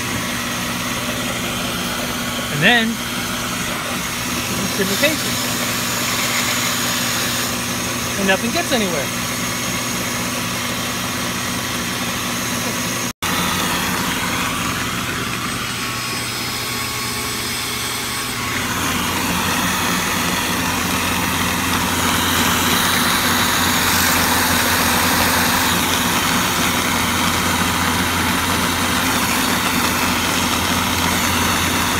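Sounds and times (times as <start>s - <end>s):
shop vac running: 0.0s - 31.9s.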